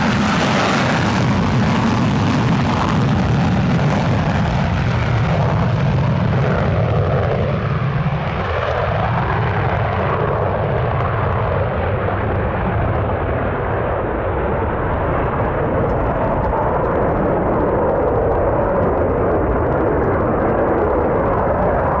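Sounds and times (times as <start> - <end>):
jet engine crackle: 0.0 - 22.0
jet engines at full afterburner: 0.0 - 22.0.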